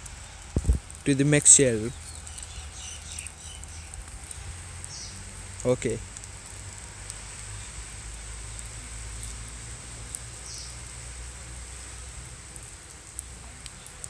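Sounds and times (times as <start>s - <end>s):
microphone hiss: 0.0s - 14.0s.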